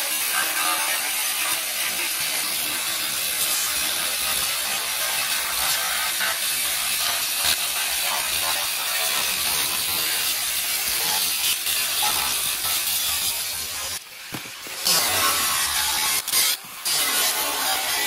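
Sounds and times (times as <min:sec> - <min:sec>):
angle grinder cutting steel: 0:00.0 - 0:18.0.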